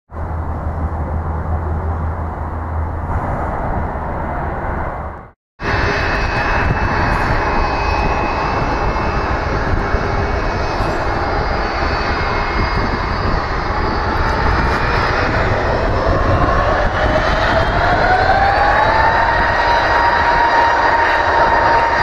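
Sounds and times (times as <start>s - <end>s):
jet engines taxiing: 0.2s - 22.0s.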